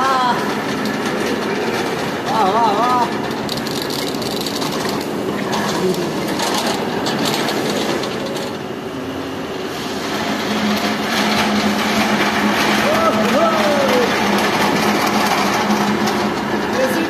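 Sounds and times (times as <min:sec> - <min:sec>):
steel frame rattling: 0:00.0 - 0:08.8, 0:10.0 - 0:17.0
pallet truck wheels rumbling: 0:00.0 - 0:17.0.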